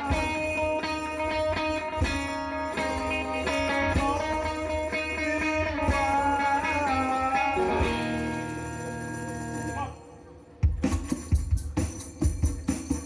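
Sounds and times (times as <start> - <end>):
electric guitar with bent notes: 0.0 - 13.0.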